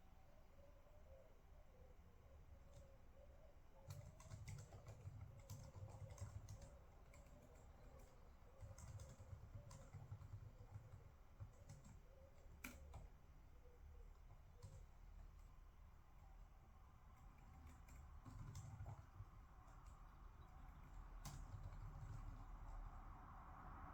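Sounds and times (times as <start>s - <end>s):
faint steady hum: 0.0s - 23.9s
typing on computer keyboard: 2.6s - 2.9s, 3.8s - 22.9s.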